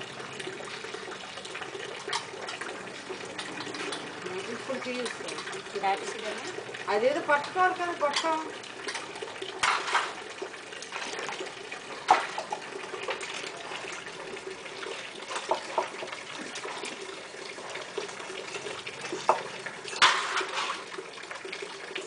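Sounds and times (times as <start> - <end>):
water from hose splashing into pot: 0.0 - 22.0.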